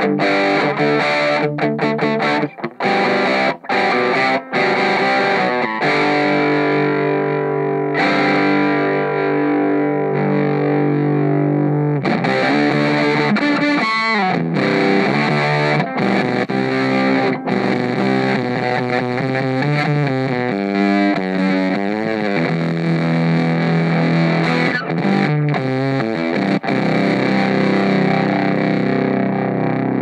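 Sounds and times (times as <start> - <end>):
distorted electric guitar: 0.0 - 30.0.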